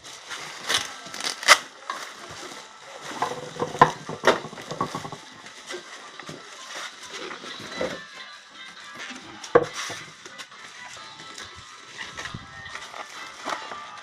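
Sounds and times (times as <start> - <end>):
packing material rustling: 0.0 - 8.9, 9.8 - 14.0.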